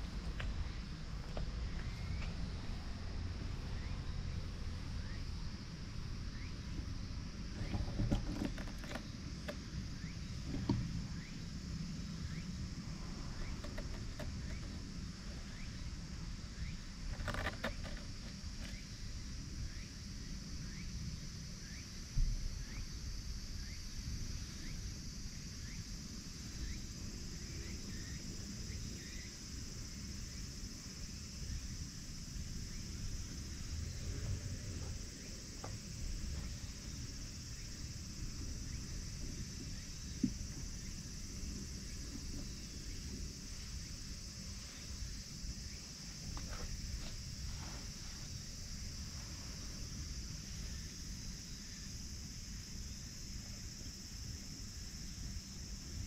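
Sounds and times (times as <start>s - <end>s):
high steady hiss: 0.0s - 56.0s.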